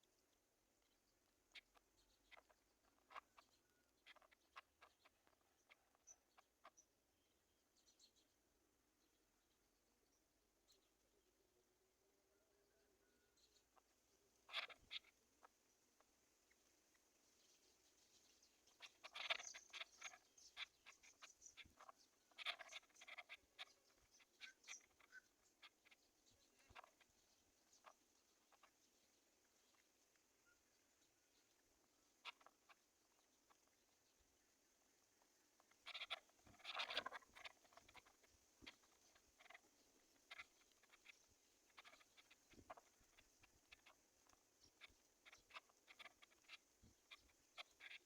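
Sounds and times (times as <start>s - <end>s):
faint high hiss: 0.0s - 48.0s.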